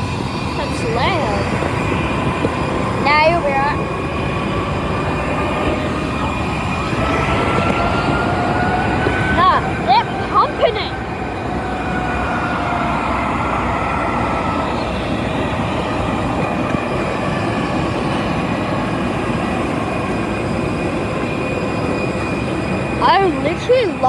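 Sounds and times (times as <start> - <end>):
jet aircraft roar: 0.0 - 24.0.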